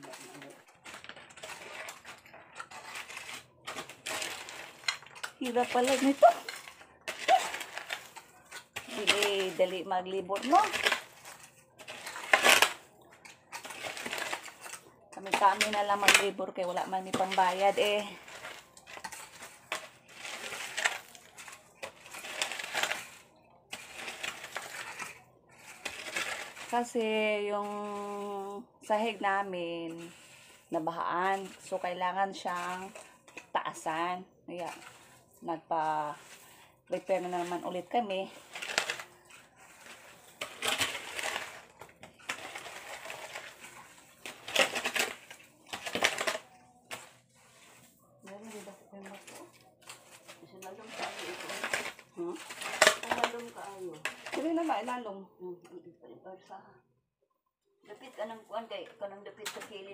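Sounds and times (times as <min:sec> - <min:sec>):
digging tool scraping dirt and rubble: 0:00.0 - 0:55.1.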